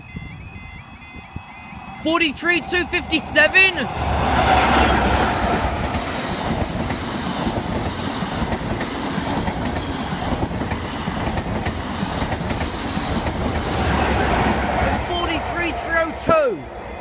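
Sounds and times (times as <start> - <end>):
diesel train passing: 0.0 - 17.0
wheels rumbling on rail: 0.0 - 17.0.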